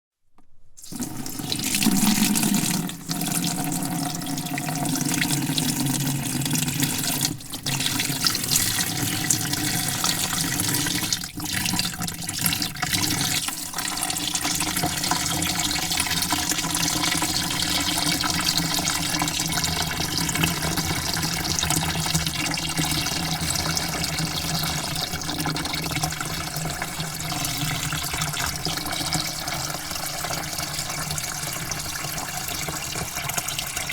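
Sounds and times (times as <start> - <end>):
water pouring into a bucket: 0.8 - 33.9.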